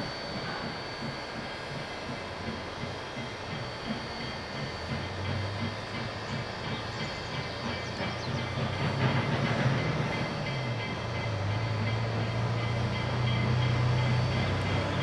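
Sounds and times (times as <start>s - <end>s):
rolling rail noise: 0.0s - 15.0s
steam locomotive exhaust: 0.0s - 15.0s.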